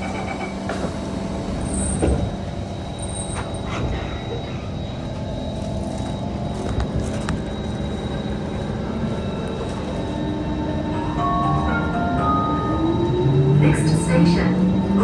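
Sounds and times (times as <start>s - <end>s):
train car equipment hum: 0.0s - 15.0s.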